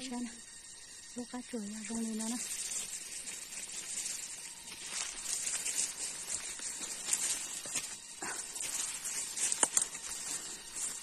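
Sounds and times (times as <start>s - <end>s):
leaves and undergrowth rustling: 0.0s - 11.0s
steady high hiss: 0.0s - 11.0s
sharp crackles: 1.8s - 11.0s.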